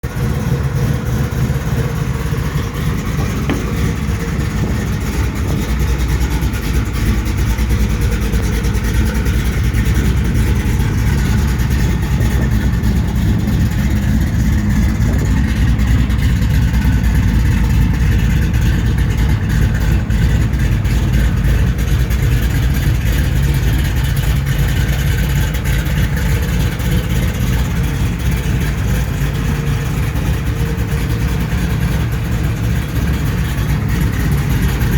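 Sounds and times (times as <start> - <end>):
truck engine idling: 0.0 - 34.9.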